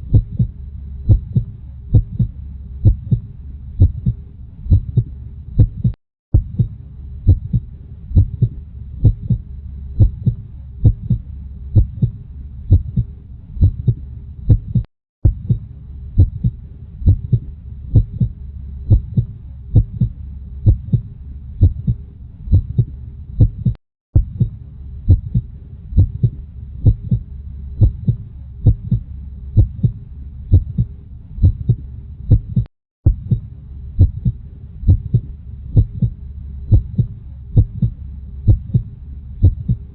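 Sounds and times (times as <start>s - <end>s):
constant low hum: 0.0s - 39.9s
heartbeat thumps: 0.0s - 39.9s.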